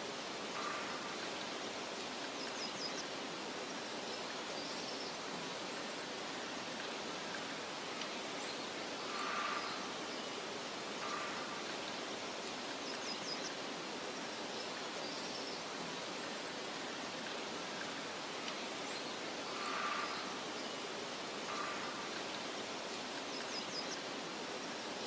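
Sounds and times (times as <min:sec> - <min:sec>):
wind hissing over meadow: 0:00.0 - 0:25.0.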